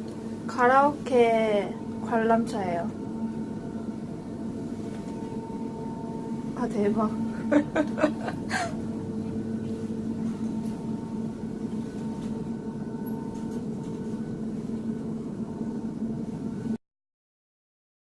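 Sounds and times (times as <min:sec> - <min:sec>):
steady machine hum: 0:00.0 - 0:16.8.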